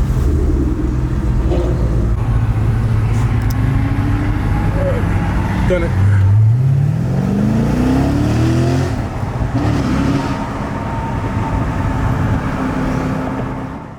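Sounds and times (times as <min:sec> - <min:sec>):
car engine accelerating hard: 0:00.0 - 0:13.8.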